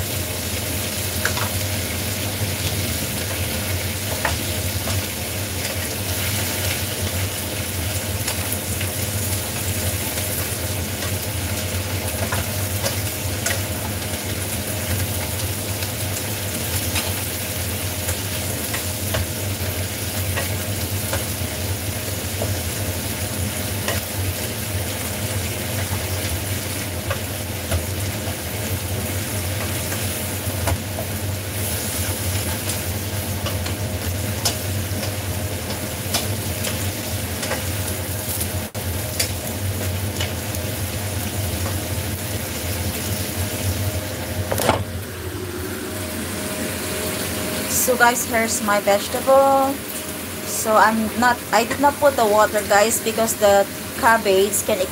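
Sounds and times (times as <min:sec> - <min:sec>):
cabbage sizzling in wok: 0:00.0 - 0:54.9.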